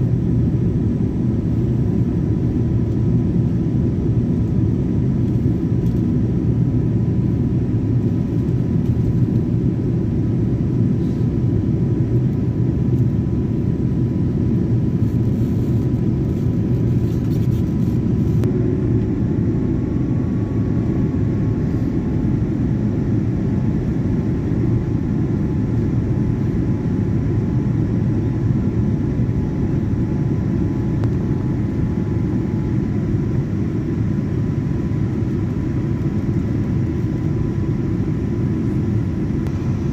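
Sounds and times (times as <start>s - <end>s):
airliner low rumble: 0.0s - 39.9s.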